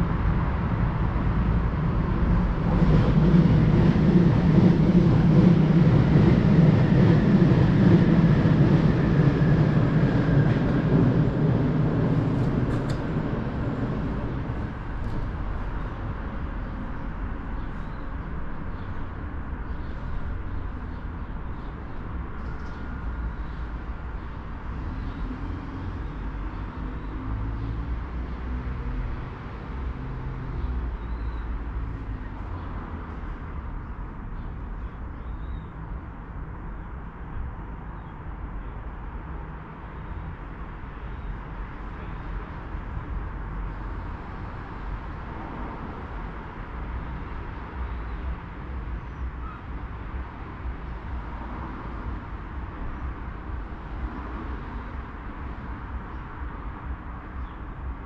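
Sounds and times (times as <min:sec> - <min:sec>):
urban background rumble: 0:00.0 - 0:58.0.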